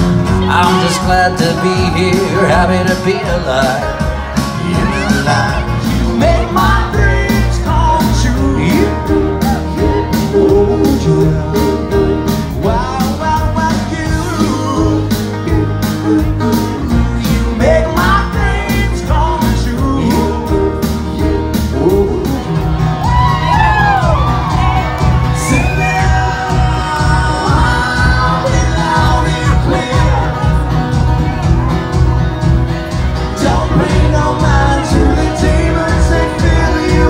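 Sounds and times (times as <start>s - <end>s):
drum kit beat: 0.0s - 37.0s
electric and acoustic guitars: 0.0s - 37.0s.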